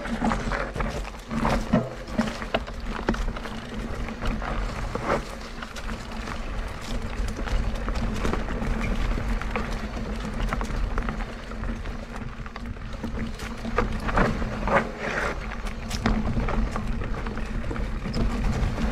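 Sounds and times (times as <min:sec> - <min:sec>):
bike knocking and rattling: 0:00.0 - 0:18.9
tyre and wind rumble: 0:00.0 - 0:18.9.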